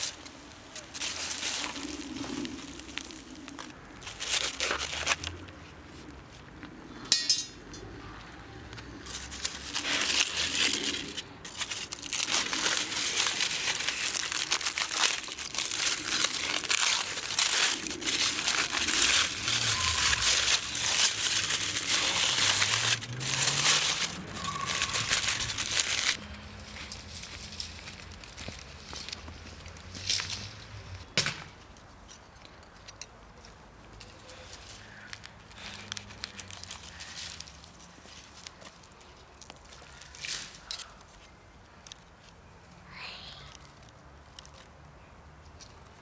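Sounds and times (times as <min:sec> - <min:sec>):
aluminium foil crinkling: 0:00.0 - 0:06.0, 0:09.0 - 0:29.2, 0:34.0 - 0:46.0.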